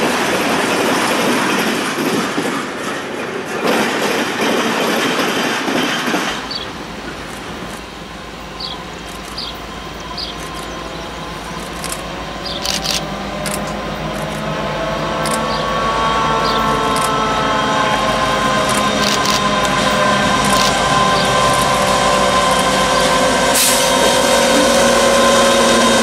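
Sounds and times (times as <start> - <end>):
freight train rumble: 0.0 - 26.0
rail noise of passing train: 0.0 - 26.0.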